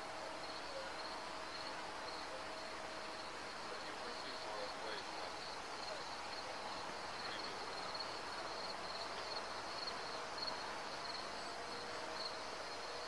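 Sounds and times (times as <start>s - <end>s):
faint background hiss: 0.0s - 13.0s
insects chirping: 0.4s - 13.0s.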